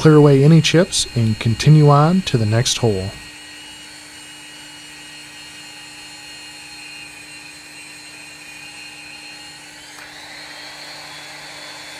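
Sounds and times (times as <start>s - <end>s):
drill motor whining: 0.0s - 11.9s.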